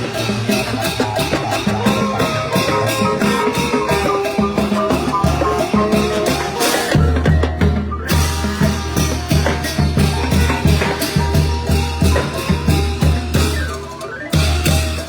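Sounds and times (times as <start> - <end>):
brass band playing: 0.0 - 7.3, 8.1 - 15.0
drums steady beat: 0.0 - 15.0.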